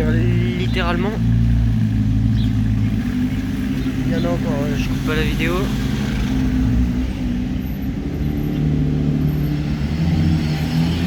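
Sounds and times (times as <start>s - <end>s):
car engines idling in traffic: 0.0s - 11.0s.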